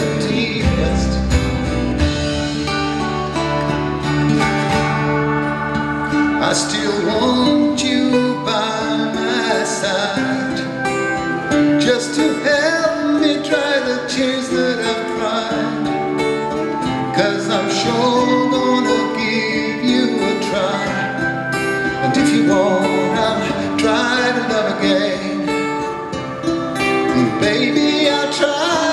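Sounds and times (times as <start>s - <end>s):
acoustic guitars playing: 0.0s - 28.9s.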